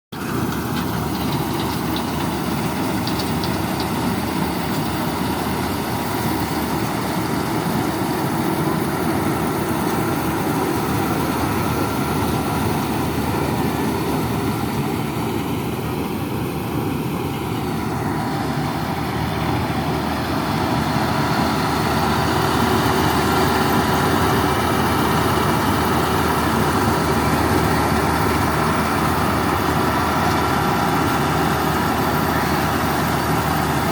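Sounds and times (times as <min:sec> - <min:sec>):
combine harvester diesel engine drone: 0:00.1 - 0:33.9
whir of threshing machinery: 0:00.2 - 0:33.9.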